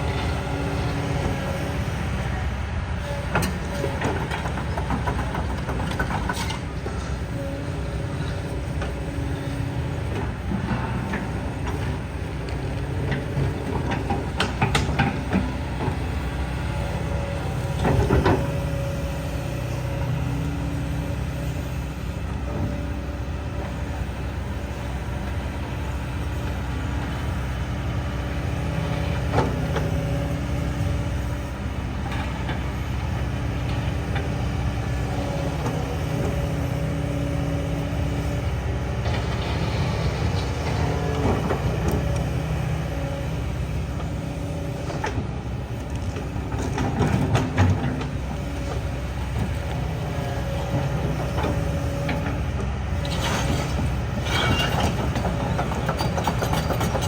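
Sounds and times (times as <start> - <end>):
excavator diesel engine working: 0.0 - 57.0.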